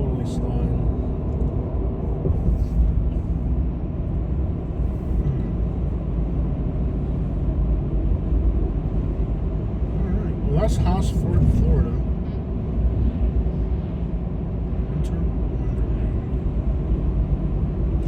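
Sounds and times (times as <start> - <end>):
car engine: 0.0 - 18.0
tyre and road noise: 0.0 - 18.0.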